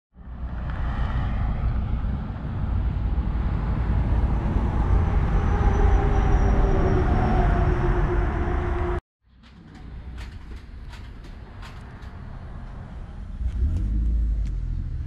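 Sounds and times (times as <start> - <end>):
vehicle rumble: 0.2 - 15.0.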